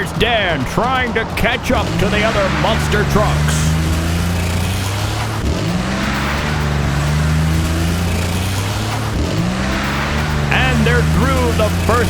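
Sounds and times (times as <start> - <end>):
monster truck engines droning: 0.0 - 12.0.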